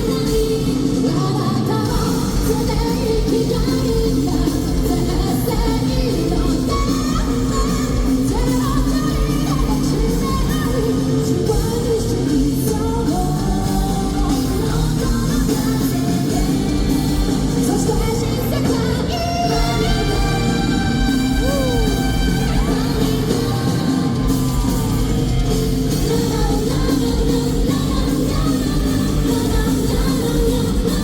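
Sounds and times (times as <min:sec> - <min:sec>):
live rock band: 0:00.0 - 0:31.0
woman singing: 0:00.0 - 0:31.0.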